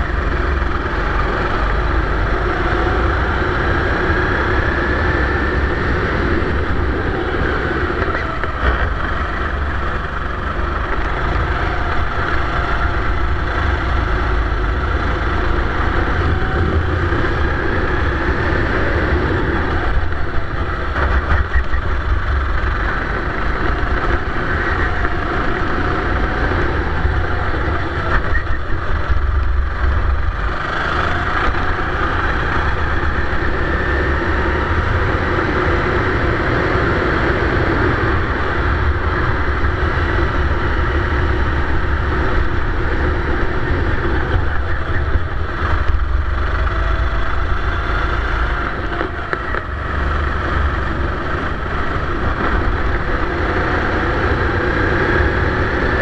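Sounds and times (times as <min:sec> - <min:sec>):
kart engine revving: 0:00.0 - 0:56.0
steady low rumble: 0:00.0 - 0:56.0.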